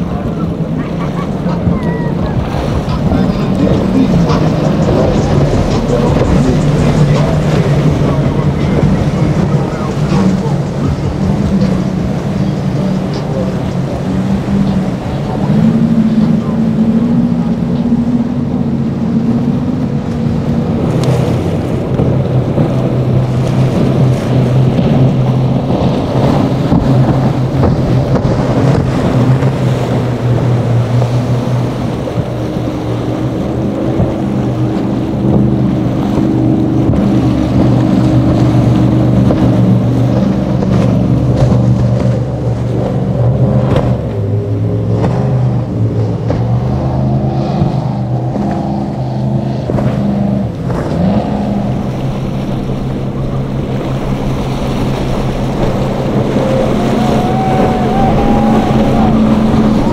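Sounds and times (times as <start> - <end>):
boat engines droning: 0.0 - 59.9
wind on microphone: 0.0 - 59.9.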